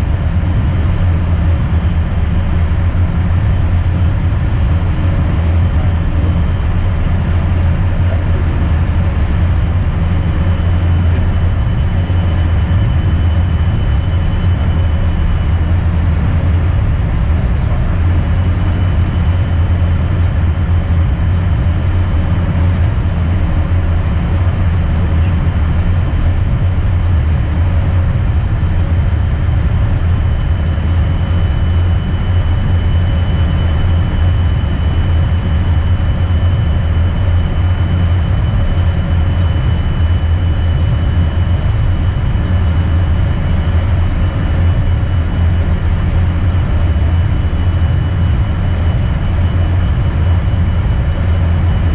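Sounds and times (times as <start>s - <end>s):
jet engine and airflow rumble: 0.0s - 51.9s.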